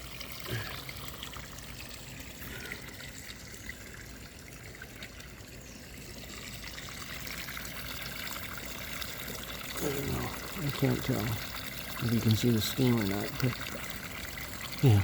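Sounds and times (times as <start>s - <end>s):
water pouring into tub: 0.0s - 15.0s.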